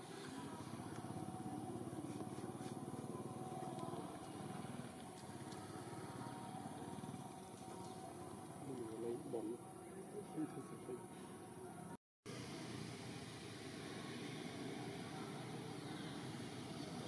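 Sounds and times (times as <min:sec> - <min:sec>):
small engine humming: 0:00.0 - 0:11.2, 0:12.3 - 0:17.0.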